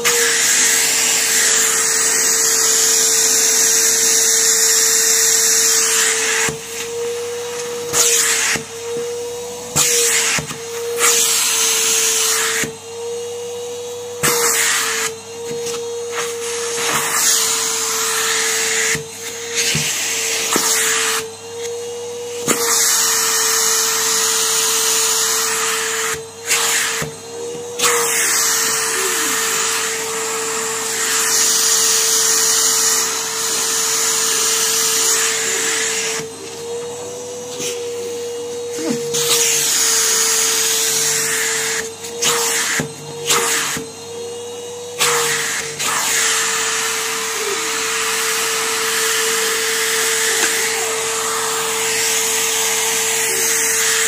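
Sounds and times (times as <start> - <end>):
vacuum cleaner motor whine: 0.0 - 54.0
vacuum nozzle suction on fabric: 0.0 - 54.0.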